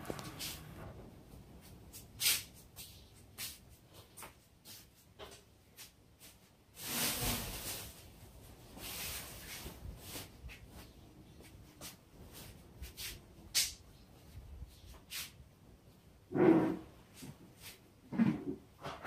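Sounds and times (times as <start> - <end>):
shuffling and rustling: 0.0 - 15.4.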